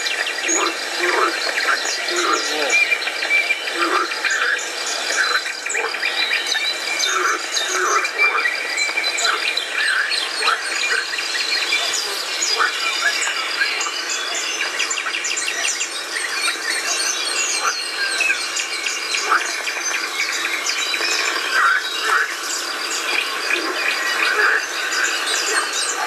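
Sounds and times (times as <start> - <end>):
birds singing: 0.0 - 26.0.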